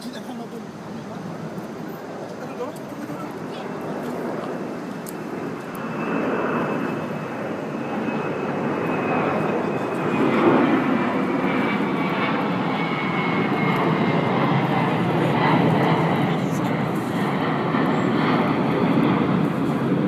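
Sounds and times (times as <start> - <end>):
passing aircraft engine: 0.0 - 20.0.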